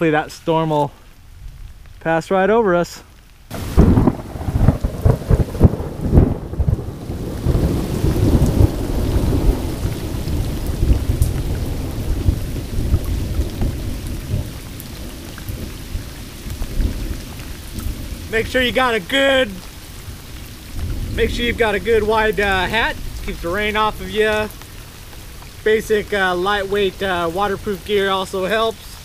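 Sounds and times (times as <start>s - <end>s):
heavy rain pouring onto water: 0.0s - 29.0s
crackling thunder rumble: 3.5s - 29.0s.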